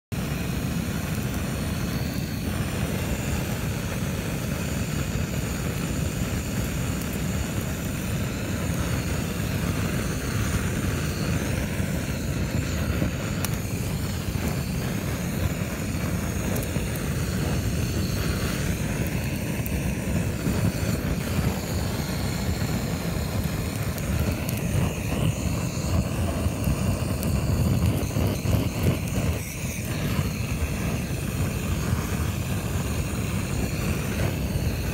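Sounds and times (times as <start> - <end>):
gas torch burning: 0.1 - 34.9.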